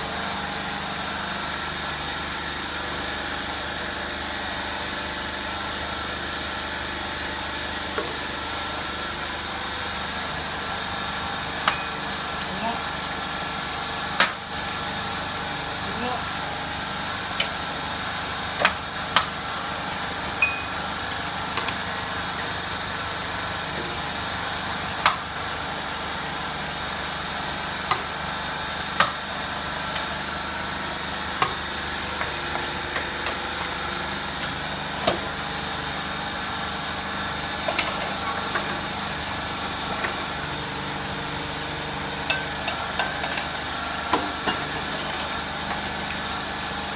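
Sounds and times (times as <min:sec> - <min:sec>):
machine motor hum: 0:00.0 - 0:46.9.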